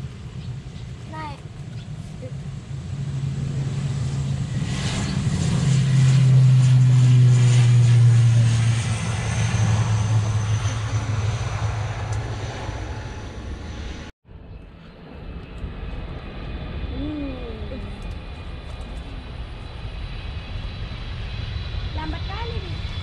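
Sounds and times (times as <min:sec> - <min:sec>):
turboprop airliner propeller drone: 0:00.0 - 0:23.0.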